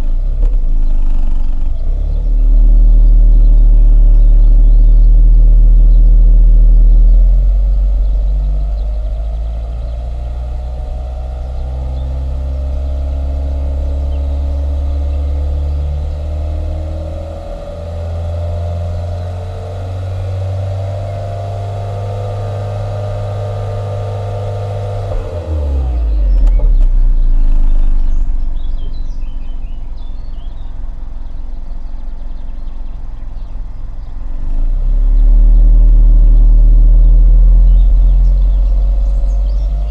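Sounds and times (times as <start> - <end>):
car engine revving at exhaust: 0.0 - 39.9
faint birds chirping: 0.0 - 39.9.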